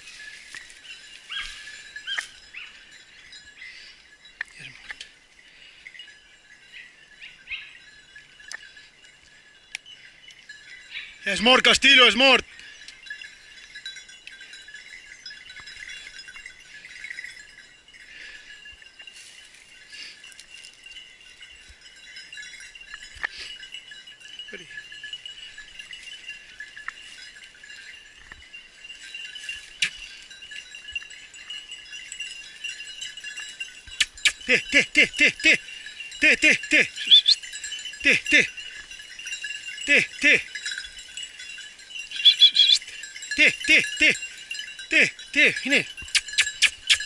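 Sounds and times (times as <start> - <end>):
dog collar bells jingling: 0.0 - 47.0.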